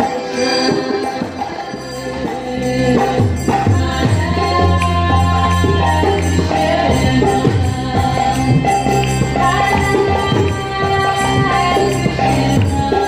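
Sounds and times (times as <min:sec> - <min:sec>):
drum rhythm: 0:00.0 - 0:13.0
voices singing a chant: 0:00.9 - 0:13.0.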